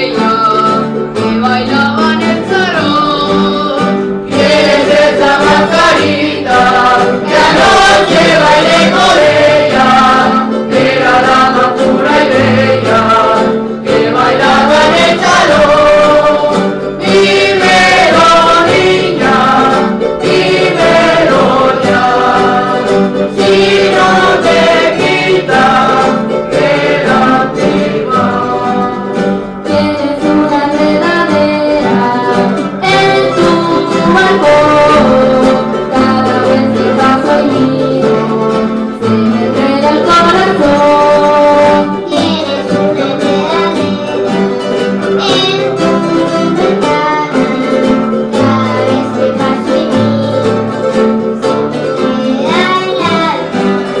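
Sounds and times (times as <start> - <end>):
group singing in chorus: 0.0 - 54.0
strummed guitars: 0.0 - 54.0.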